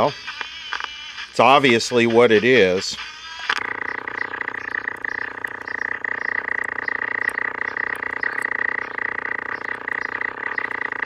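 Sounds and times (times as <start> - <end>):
radio speaker harsh buzzing whine: 0.0 - 11.0.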